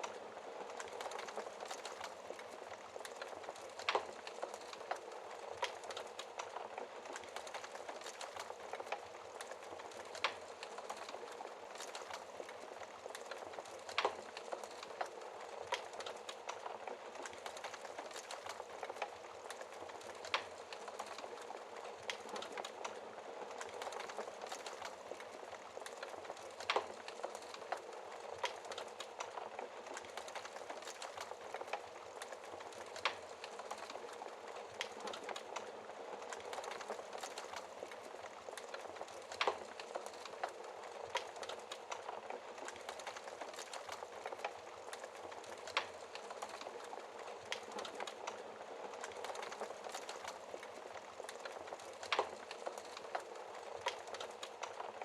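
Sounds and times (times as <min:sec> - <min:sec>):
fire hissing and crackling: 0:00.0 - 0:55.0
fire popping: 0:00.0 - 0:55.0.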